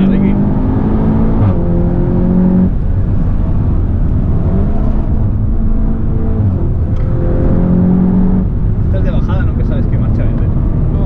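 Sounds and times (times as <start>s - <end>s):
car engine under way: 0.0s - 11.0s
tyre and road noise: 0.0s - 11.0s.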